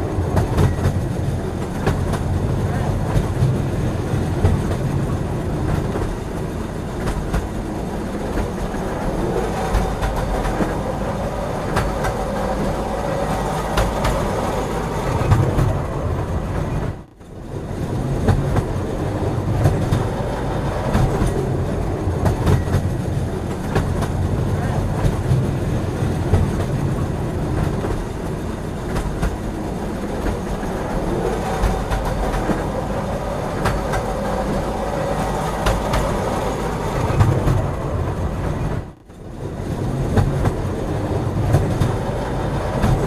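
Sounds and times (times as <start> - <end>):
train rumbling on rails: 0.0 - 43.0
wheels clicking over rail joints: 0.0 - 43.0.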